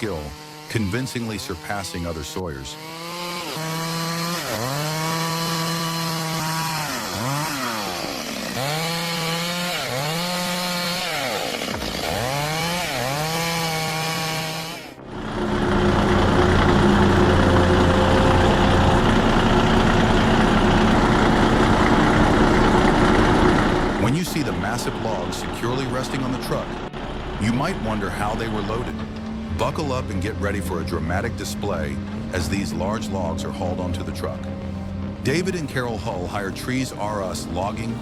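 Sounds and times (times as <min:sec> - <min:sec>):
chainsaw cutting a log: 0:00.0 - 0:38.0
loud steady machine noise: 0:02.7 - 0:38.0.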